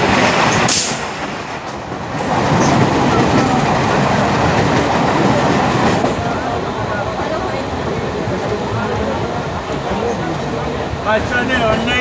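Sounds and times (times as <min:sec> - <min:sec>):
train rumble and wheel clatter: 0:00.0 - 0:12.0.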